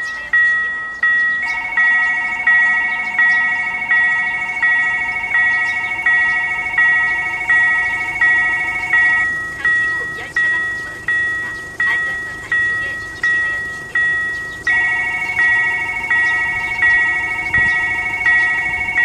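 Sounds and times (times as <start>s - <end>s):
crossing bell two-tone chime: 0.0s - 19.0s
steady warning tone: 0.0s - 19.0s.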